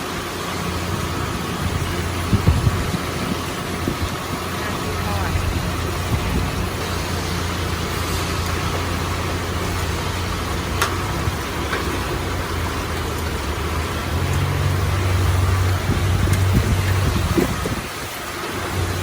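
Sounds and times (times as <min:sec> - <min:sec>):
constant hiss: 0:00.0 - 0:19.0
vehicle engine idling: 0:00.0 - 0:19.0.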